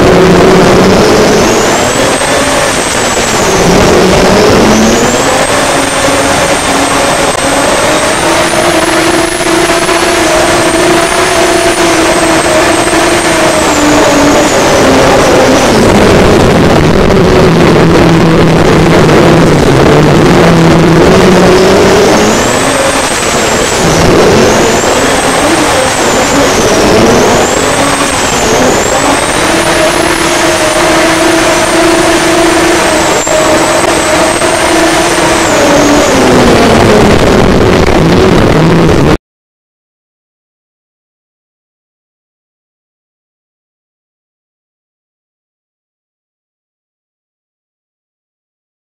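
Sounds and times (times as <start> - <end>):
high turbo whine: 0.0 - 39.2
racing powerboat engine: 0.0 - 39.2.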